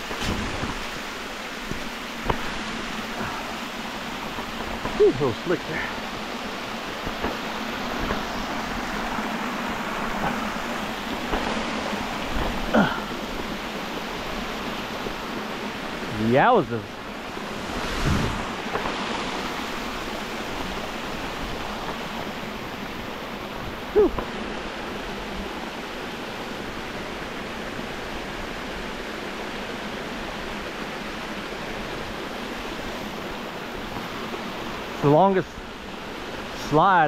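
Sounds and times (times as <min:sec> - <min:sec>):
creek water rushing over rock: 0:00.0 - 0:37.0.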